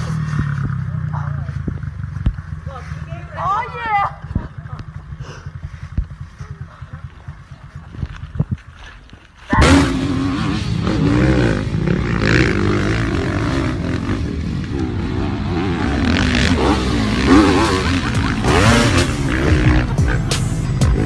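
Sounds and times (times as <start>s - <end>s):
motocross bike engines revving: 0.0s - 8.7s, 9.4s - 21.0s.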